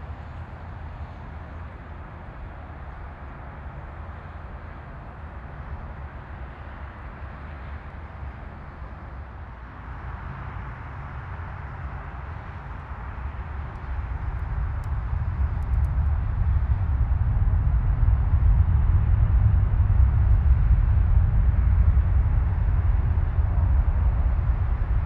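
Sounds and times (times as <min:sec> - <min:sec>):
turboprop engines roaring: 0:00.0 - 0:25.0.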